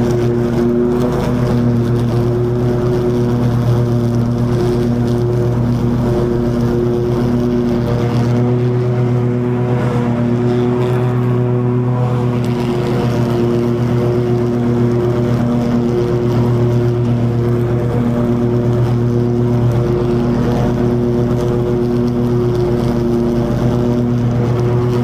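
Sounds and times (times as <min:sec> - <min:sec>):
lawn mower cutting grass: 0:00.0 - 0:25.0.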